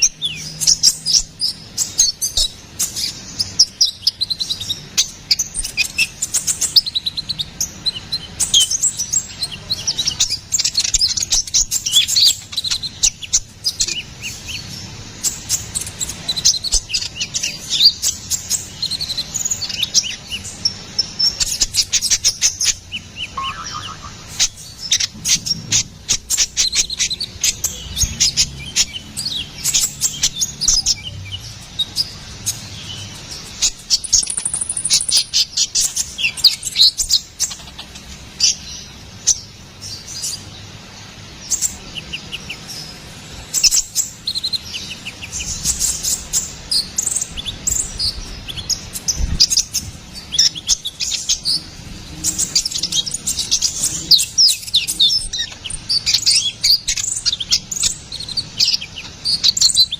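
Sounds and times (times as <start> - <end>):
sunbird singing chirps and trills: 0.0 - 59.9.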